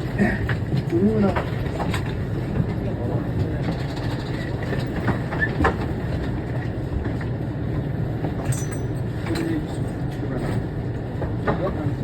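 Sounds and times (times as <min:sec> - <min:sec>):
train interior low rumble: 0:00.0 - 0:12.0.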